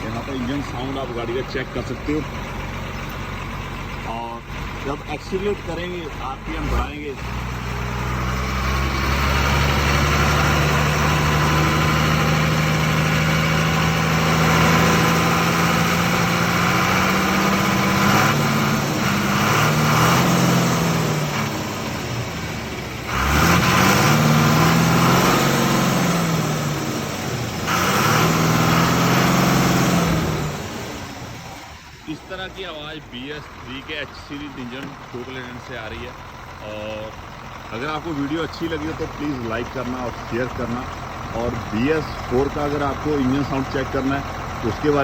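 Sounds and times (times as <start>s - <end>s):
diesel truck engine revving: 0.0s - 45.0s.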